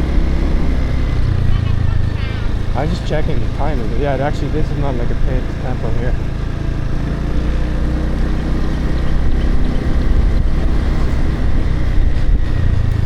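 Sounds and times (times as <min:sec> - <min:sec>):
motorbike engine running: 0:00.0 - 0:13.0
road noise: 0:00.0 - 0:13.0.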